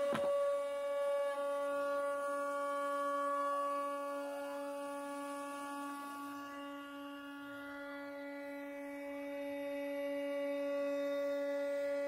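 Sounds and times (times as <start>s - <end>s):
router spindle whine: 0.0s - 12.0s.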